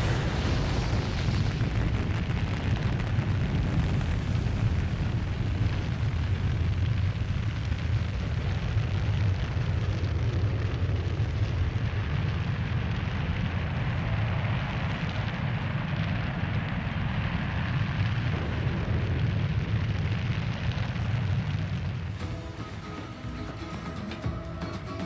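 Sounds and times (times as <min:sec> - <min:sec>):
noisy hiss: 0:00.0 - 0:25.0
rocket engines deep rumble: 0:00.0 - 0:25.0.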